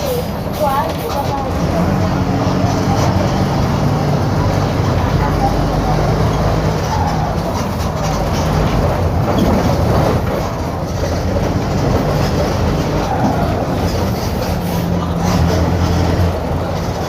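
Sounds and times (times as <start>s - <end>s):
bus diesel engine rattling rumble: 0.0s - 17.0s.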